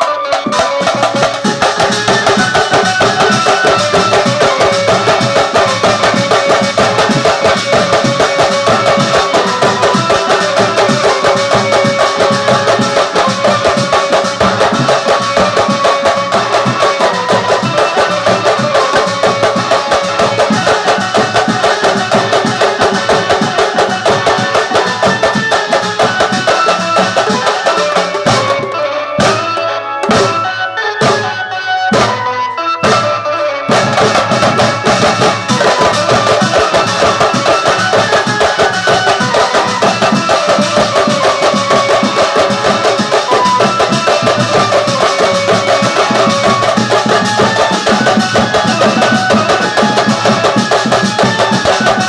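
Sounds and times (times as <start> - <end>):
frame drums and barrel drums: 0.0 - 52.0.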